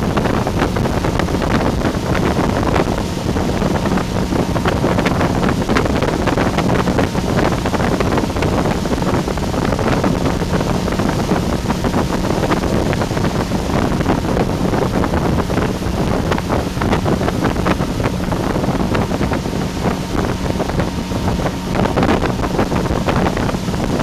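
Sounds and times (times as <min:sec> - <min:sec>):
motorboat engine running: 0:00.0 - 0:24.0
water rushing in wake: 0:00.0 - 0:24.0
wind buffeting microphone: 0:00.0 - 0:24.0.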